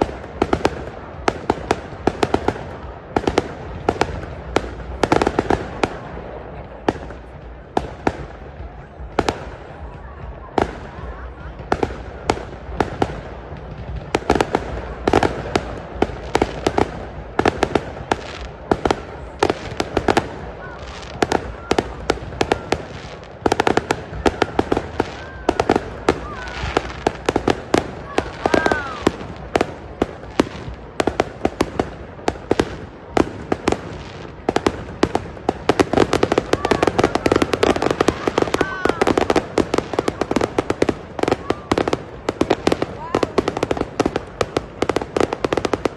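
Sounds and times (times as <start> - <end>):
fireworks bangs and cracks: 0.0 - 45.9.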